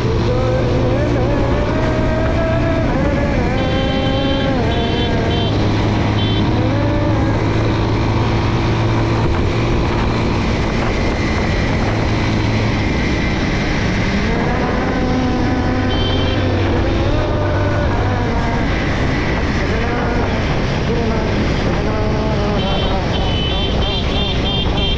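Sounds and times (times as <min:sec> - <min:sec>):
wind on microphone: 0:00.0 - 0:24.9.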